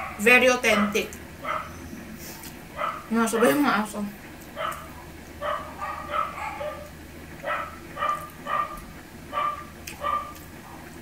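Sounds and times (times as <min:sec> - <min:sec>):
dogs barking: 0:00.0 - 0:02.0, 0:02.7 - 0:03.7, 0:04.4 - 0:11.0.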